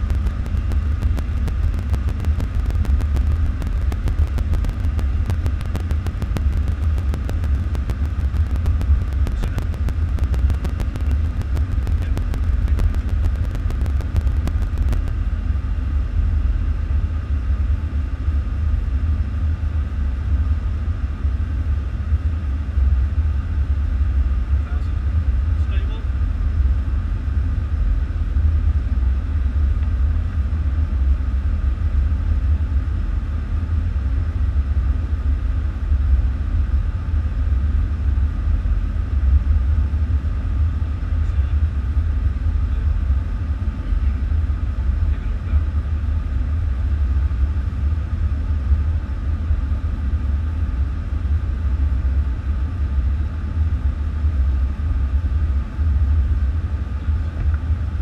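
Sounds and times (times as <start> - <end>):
airflow and engine noise: 0.0 - 58.0.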